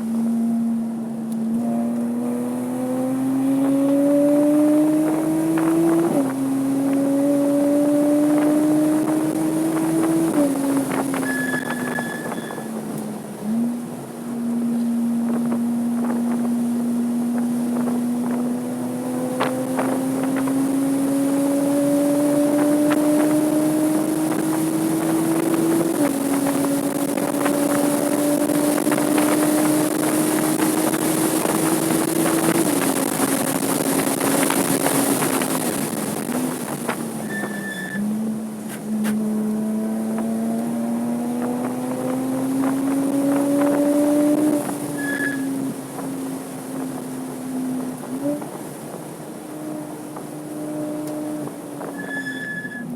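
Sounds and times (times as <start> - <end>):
car engine revving on track: 0.0 - 52.9.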